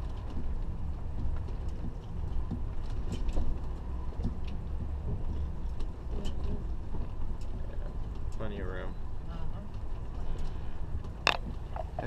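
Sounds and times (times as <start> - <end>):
vehicle interior low rumble: 0.0 - 12.0.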